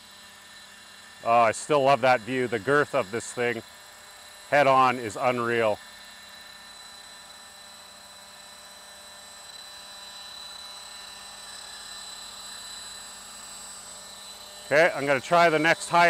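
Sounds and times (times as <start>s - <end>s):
helicopter rotor noise: 0.0s - 16.0s
high-pitched motor whine: 0.0s - 16.0s.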